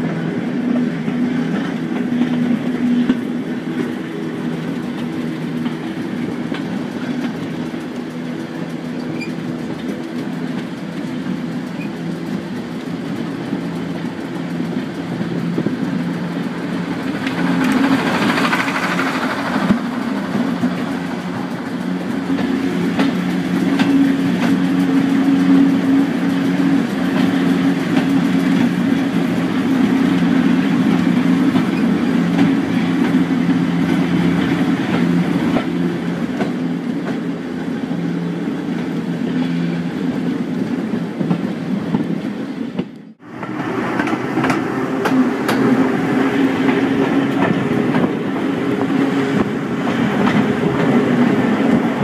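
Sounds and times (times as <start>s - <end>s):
diesel train engine hum: 0.0s - 52.0s
wheels clicking over rail joints: 0.0s - 52.0s.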